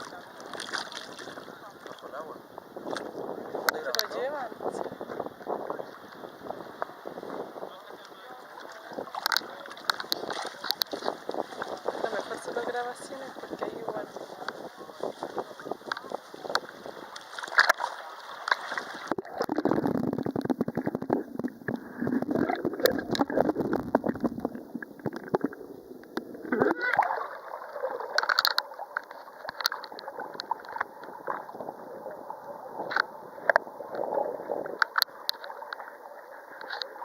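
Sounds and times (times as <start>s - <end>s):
seawater sloshing and splashing: 0.0s - 2.2s, 2.8s - 21.1s, 26.5s - 37.0s.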